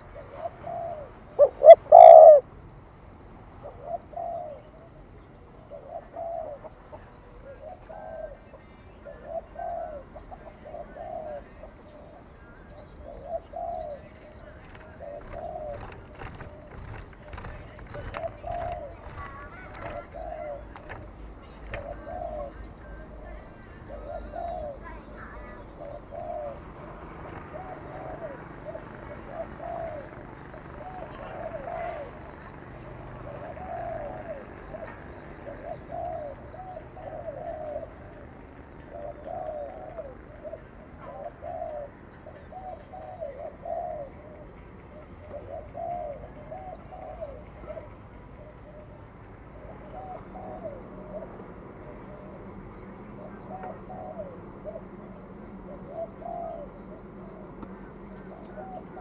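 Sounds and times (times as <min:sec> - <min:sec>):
dove cooing: 0:00.0 - 0:02.5, 0:03.6 - 0:04.8, 0:05.6 - 0:59.0.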